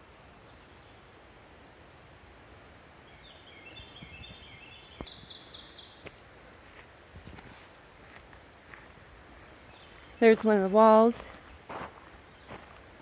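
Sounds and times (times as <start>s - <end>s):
songbird singing: 0.0s - 6.4s, 8.0s - 13.0s
outdoor background noise: 0.0s - 13.0s.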